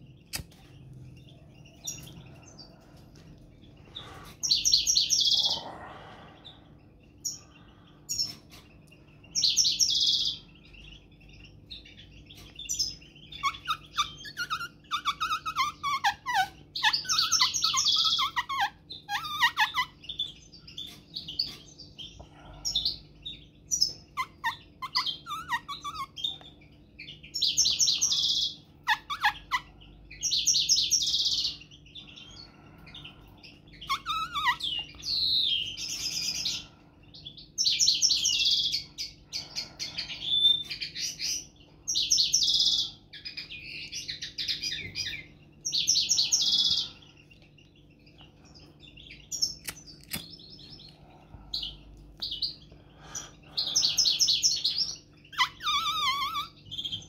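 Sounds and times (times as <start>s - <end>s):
finches singing trills: 0.0s - 57.0s.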